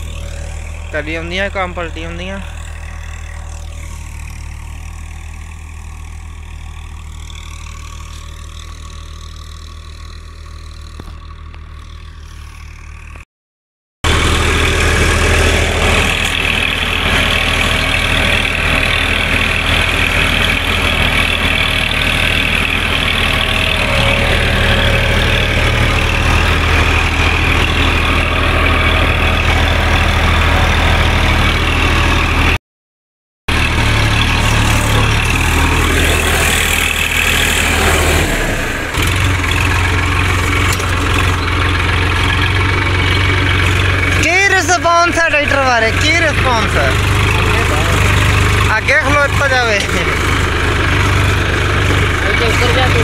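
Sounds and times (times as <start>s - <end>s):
tractor diesel engine running: 0.0s - 13.2s, 14.0s - 32.6s, 33.5s - 53.0s.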